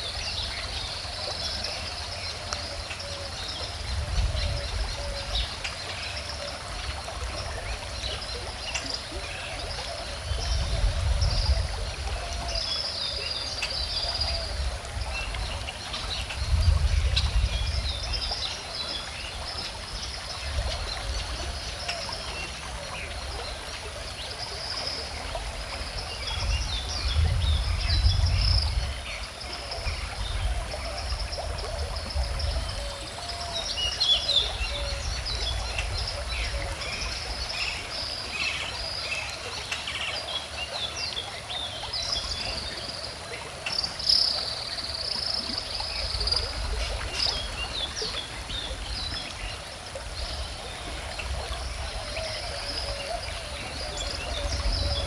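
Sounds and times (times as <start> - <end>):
flowing river water: 0.0 - 55.0.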